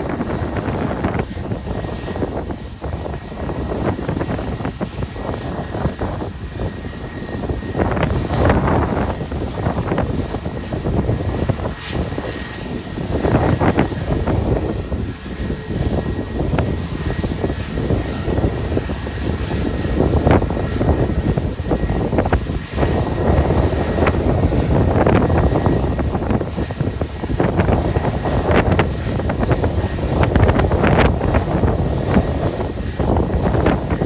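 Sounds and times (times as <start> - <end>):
jet engines at takeoff: 0.0 - 34.0
wind buffeting microphone: 0.0 - 34.0.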